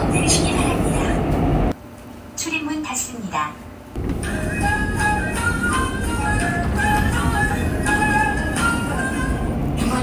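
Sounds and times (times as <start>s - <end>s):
low rumble of train: 0.0s - 10.0s.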